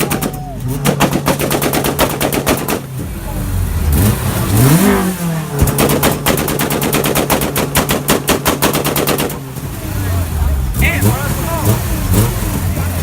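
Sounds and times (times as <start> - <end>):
car engine revving: 0.0 - 13.0
exhaust pops and bangs: 0.0 - 13.0.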